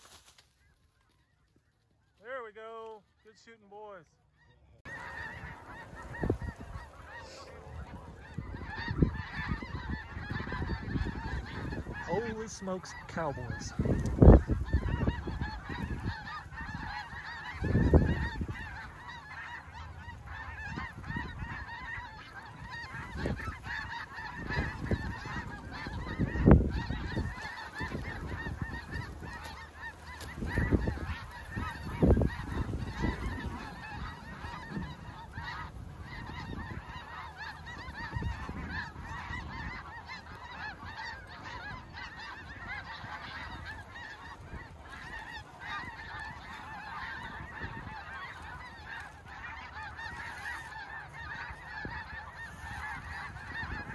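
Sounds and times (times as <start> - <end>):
geese honking: 0.0 - 53.9.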